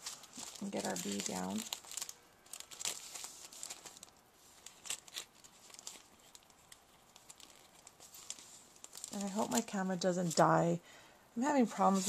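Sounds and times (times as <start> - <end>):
foam sheet crinkling: 0.0 - 10.7, 11.4 - 12.0.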